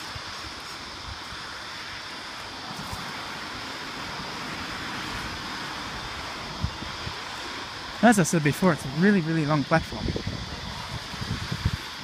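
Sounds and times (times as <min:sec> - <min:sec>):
wind on microphone: 0:00.0 - 0:08.0, 0:08.6 - 0:12.0
road traffic: 0:00.0 - 0:12.0.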